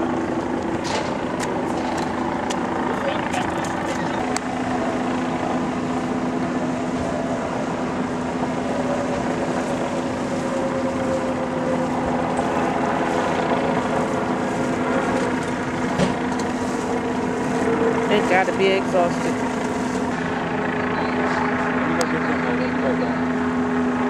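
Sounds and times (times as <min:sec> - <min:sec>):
engine droning hum: 0:00.0 - 0:24.0.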